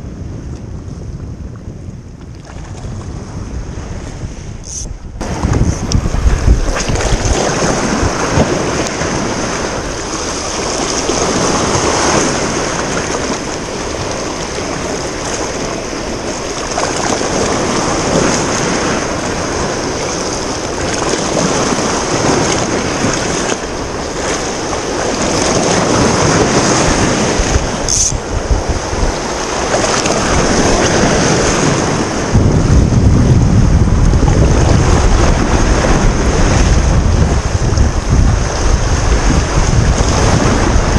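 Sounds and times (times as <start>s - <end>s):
wind buffeting microphone: 0.0s - 40.9s
waves breaking on rocky shore: 5.2s - 40.9s.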